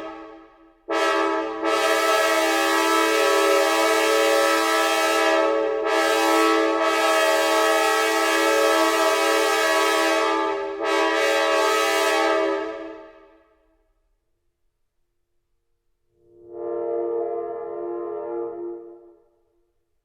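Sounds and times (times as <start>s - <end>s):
train horn chord blast: 0.0s - 13.5s, 16.2s - 19.5s.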